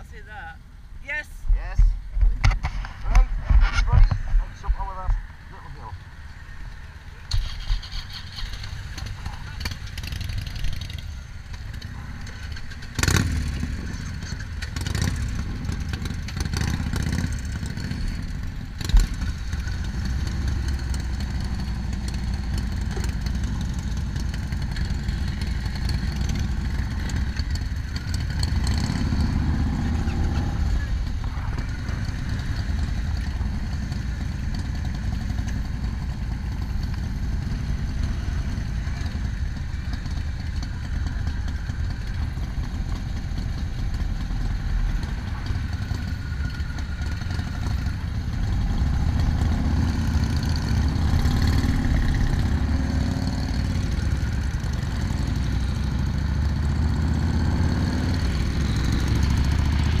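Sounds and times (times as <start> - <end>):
motorcycle engines idling and revving: 0.0 - 60.0.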